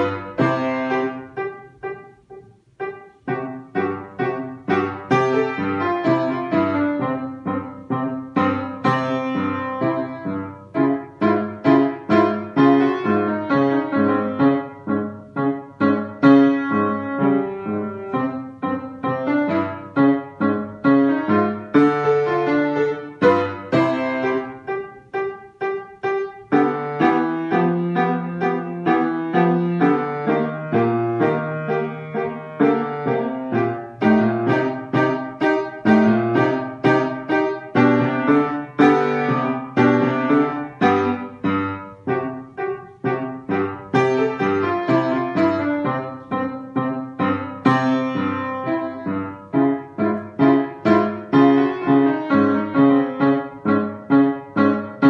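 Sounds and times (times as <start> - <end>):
piano playing a march: 0.0 - 55.0.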